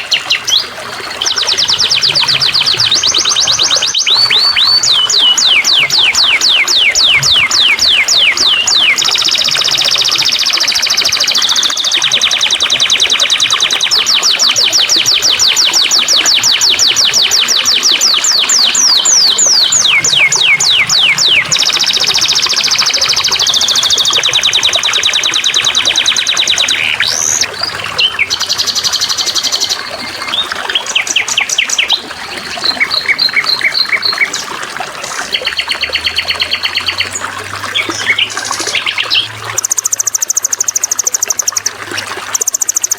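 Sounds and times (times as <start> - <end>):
songbirds trilling: 0.0 - 42.9
water trickling: 0.0 - 42.9.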